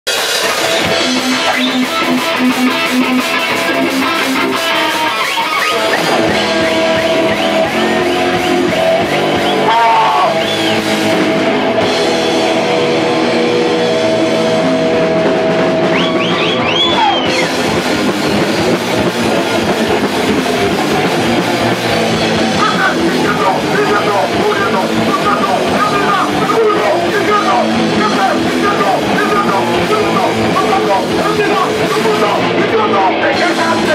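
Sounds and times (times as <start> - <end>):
bass guitar: 0.0 - 33.9
distorted electric guitars: 0.0 - 33.9
drum kit: 0.0 - 33.9.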